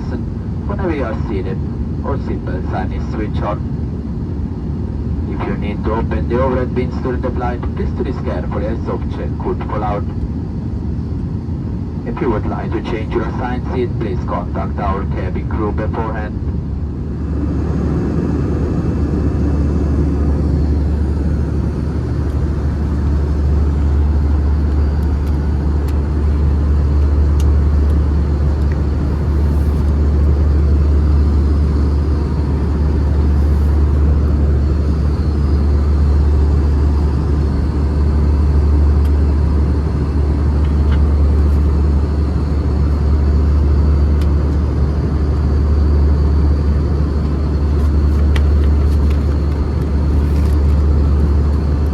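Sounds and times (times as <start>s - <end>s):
airplane cabin low rumble: 0.0s - 51.9s.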